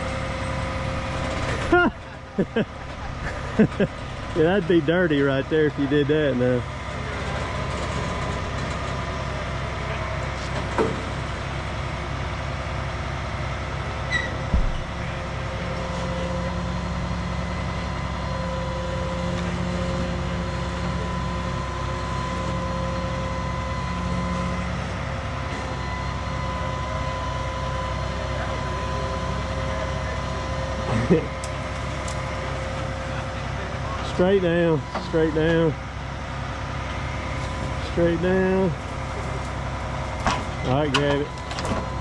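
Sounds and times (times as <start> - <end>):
truck engine running with whine: 0.0 - 42.0.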